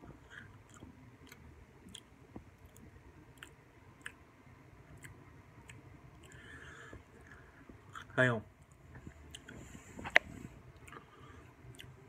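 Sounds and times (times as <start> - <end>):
faint chewing of cookie: 0.0 - 12.0.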